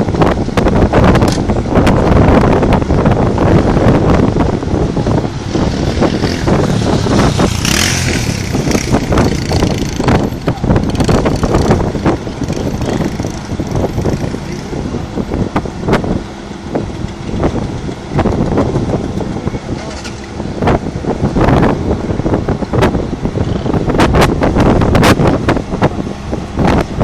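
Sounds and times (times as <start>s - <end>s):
low rumble: 0.0s - 27.0s
wind buffeting microphone: 0.0s - 27.0s.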